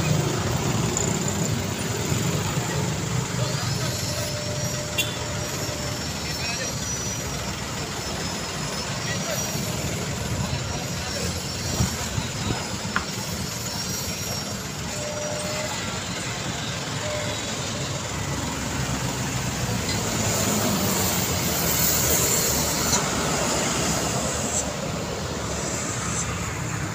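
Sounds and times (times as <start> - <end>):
cars and motorbikes passing: 0.0 - 14.9, 15.6 - 26.9.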